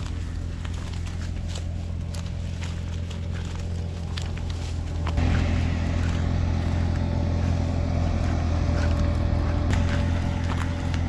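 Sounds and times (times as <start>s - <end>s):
threshing machine engine running: 0.0s - 11.0s.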